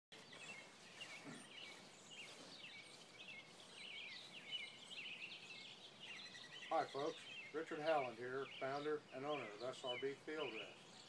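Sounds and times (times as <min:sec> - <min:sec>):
faint steady background noise: 0:00.1 - 0:11.0
small birds chirping: 0:00.1 - 0:11.0.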